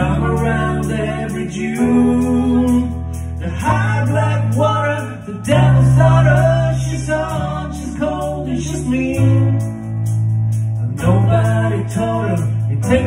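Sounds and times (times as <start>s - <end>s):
man and woman singing together: 0.0s - 9.6s, 11.0s - 13.0s
keyboard: 0.0s - 13.0s.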